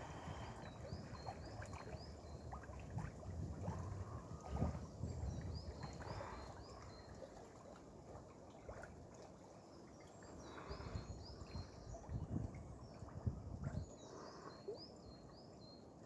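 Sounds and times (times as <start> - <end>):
water sloshing from swimming strokes: 0.0 - 14.8.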